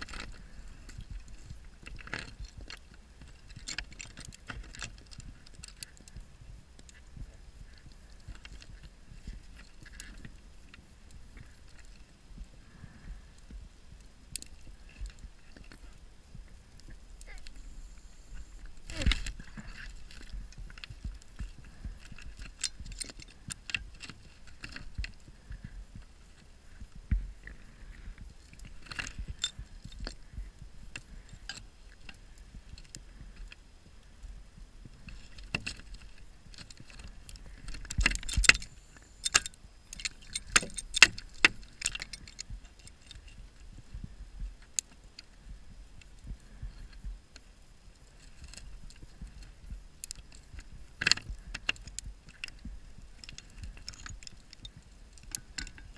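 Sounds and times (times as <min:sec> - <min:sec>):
metallic clicks and clinks underwater: 0:00.0 - 0:06.2, 0:06.8 - 0:12.2, 0:16.8 - 0:33.6, 0:34.9 - 0:43.7, 0:46.0 - 0:55.9.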